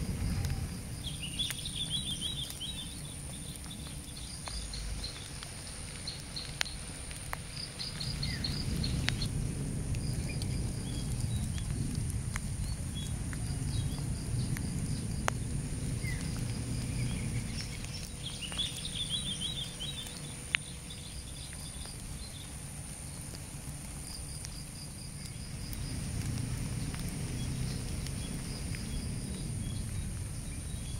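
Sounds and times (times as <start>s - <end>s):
low rumble: 0.0s - 24.2s, 25.0s - 30.9s
high insect drone: 0.0s - 30.9s.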